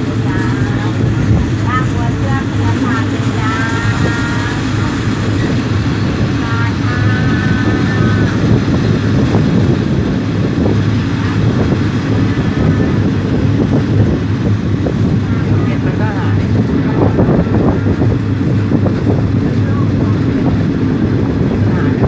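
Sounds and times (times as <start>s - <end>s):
train wheels and engine rumbling: 0.0s - 22.0s
wind rushing past: 0.0s - 22.0s.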